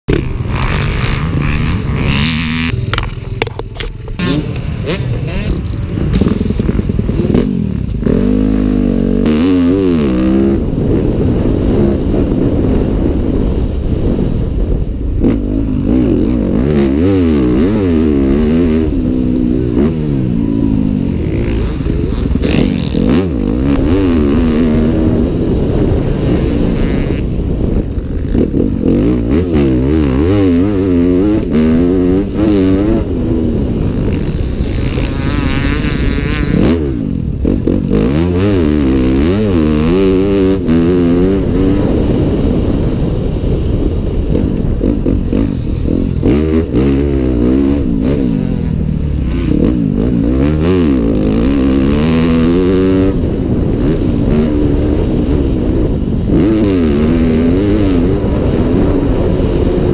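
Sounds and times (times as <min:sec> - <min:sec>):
motocross engine revving: 0:00.1 - 0:03.5, 0:04.2 - 0:13.0, 0:15.2 - 0:42.8, 0:44.3 - 0:59.9.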